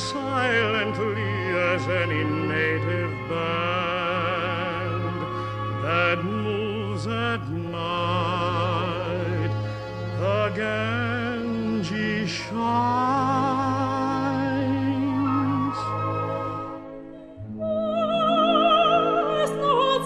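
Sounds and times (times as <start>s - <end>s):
operatic singing: 0.0s - 20.0s.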